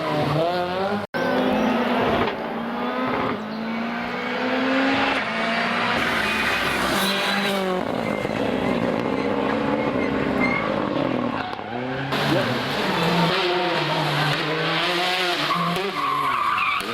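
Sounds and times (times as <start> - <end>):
rally car engine revving: 0.0 - 16.9.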